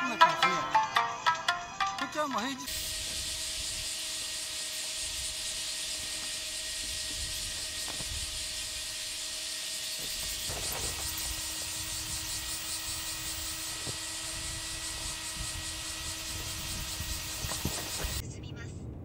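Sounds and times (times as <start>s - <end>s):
high-pitched hiss with pulsing: 2.6s - 18.2s.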